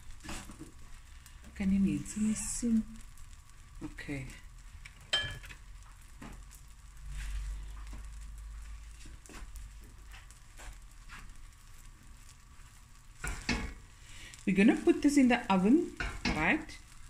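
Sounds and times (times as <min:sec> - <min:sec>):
bread sizzling in a pan: 0:00.0 - 0:17.0.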